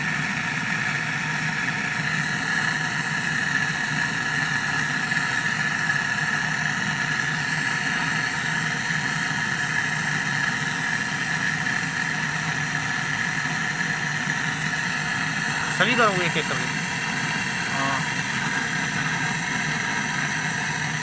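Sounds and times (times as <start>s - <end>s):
electric motor humming and whining: 0.0s - 21.0s.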